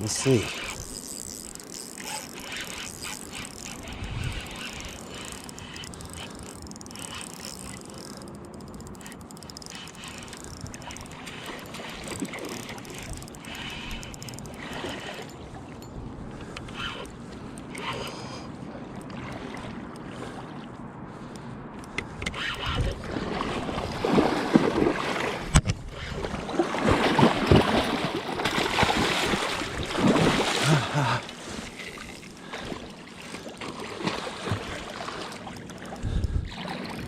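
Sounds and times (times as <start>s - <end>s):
river water splashing: 0.0s - 21.3s, 22.4s - 37.0s.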